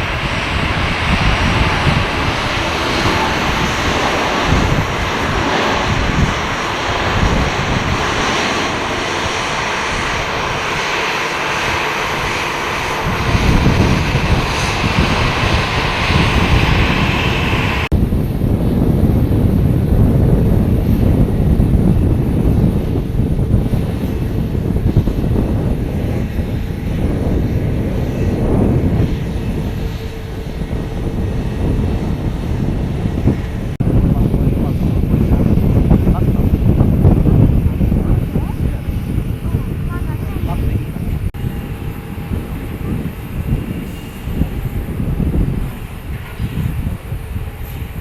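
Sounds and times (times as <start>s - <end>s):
jet engines: 0.0s - 48.0s.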